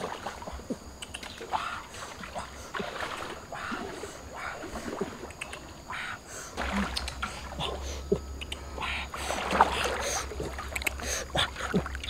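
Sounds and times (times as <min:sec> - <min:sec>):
person wading through water: 0:00.0 - 0:12.0.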